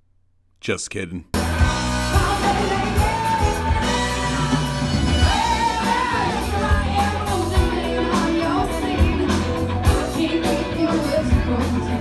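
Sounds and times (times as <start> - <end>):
electric guitars: 1.4 - 12.0
keyboard: 1.4 - 12.0
woman singing lead: 2.0 - 12.0.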